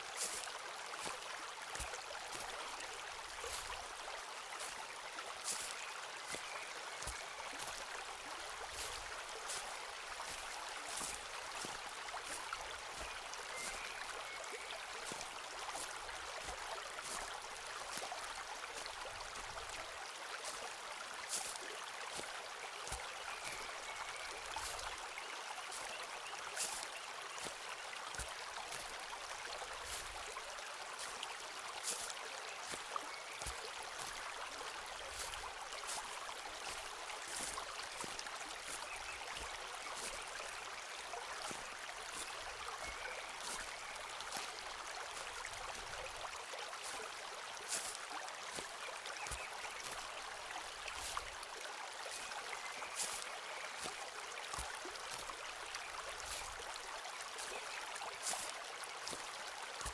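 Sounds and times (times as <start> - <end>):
footsteps on a forest path: 0.0 - 59.9
stream rushing: 0.0 - 59.9.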